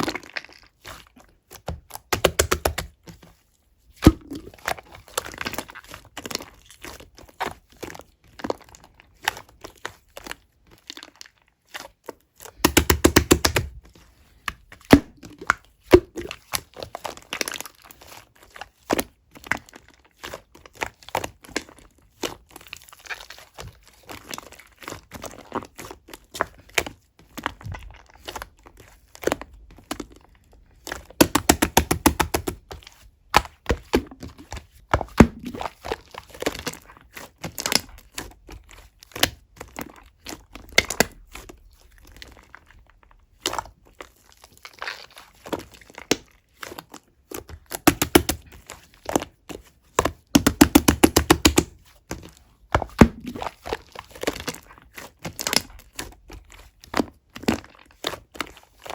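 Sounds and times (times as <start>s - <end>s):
slime squished by hand: 3.9s - 58.9s.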